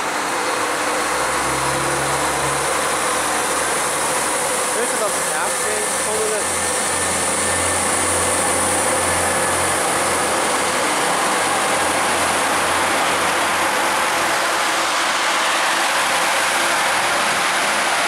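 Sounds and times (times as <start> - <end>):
train engines and wheels: 0.0 - 18.0.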